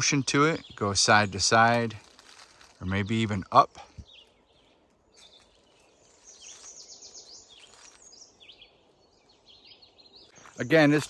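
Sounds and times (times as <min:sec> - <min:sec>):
bird chirping: 0:00.0 - 0:11.0
outdoor background hiss: 0:00.0 - 0:11.0.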